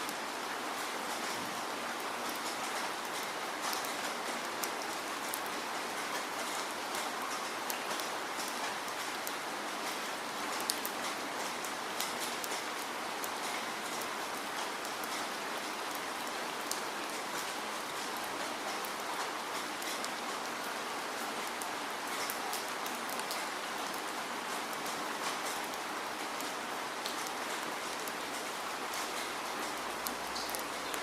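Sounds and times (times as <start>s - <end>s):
steady rainfall: 0.0s - 31.0s.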